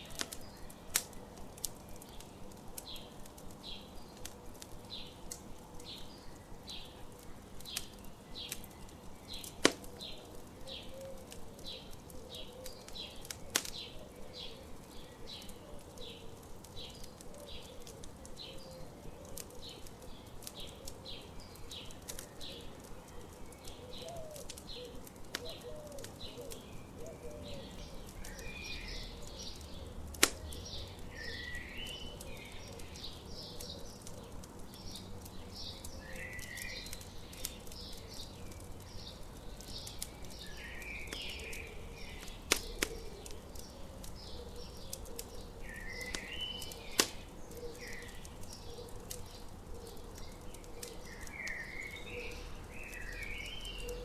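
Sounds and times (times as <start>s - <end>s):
crackling campfire: 0.0s - 54.0s
sharp pops from fire: 0.0s - 54.0s
songbirds chirping: 0.0s - 54.0s.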